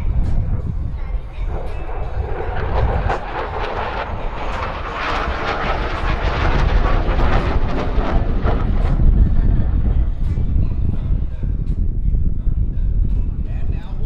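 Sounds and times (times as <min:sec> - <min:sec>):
fighter jet engine rumble: 0:00.0 - 0:14.0.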